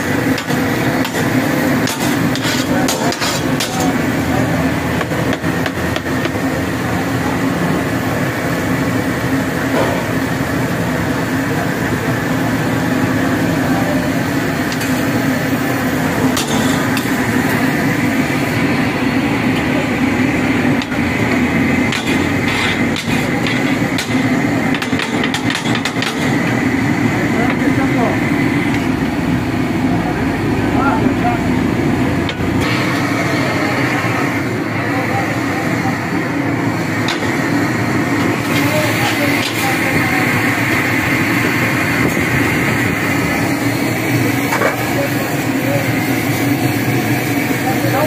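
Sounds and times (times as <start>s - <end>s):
fish deep-frying in oil: 0.0s - 30.6s, 31.5s - 48.0s.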